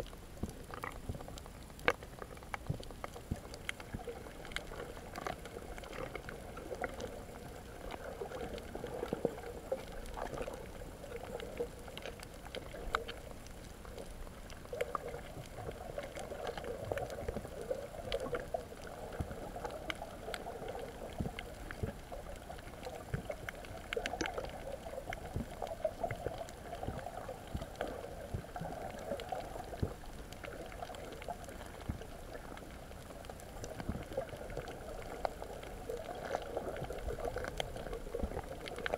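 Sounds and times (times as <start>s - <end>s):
sharp underwater clicks and crackles: 0.0s - 38.9s
underwater rush of water: 0.0s - 38.9s.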